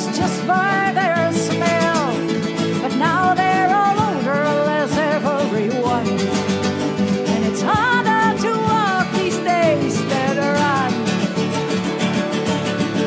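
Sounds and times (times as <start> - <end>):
woman singing: 0.0 - 6.4, 7.0 - 11.3
flamenco guitar: 0.0 - 13.0
plucked string instrument: 0.0 - 13.0.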